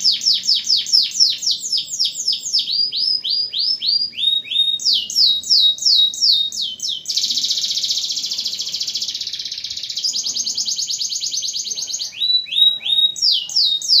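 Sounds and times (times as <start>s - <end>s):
canary singing trills: 0.0s - 14.0s.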